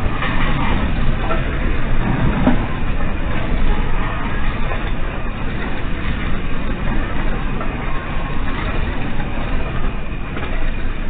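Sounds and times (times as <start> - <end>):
earthquake ground rumble: 0.0 - 11.0.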